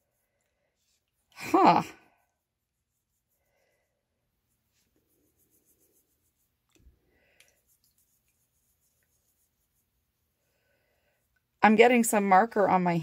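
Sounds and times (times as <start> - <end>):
brush scrubbing plastic: 0.0 - 10.5.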